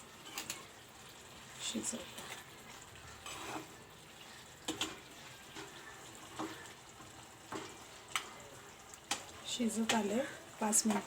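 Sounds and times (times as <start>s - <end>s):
chicken simmering with bubbling hiss: 0.0s - 11.0s.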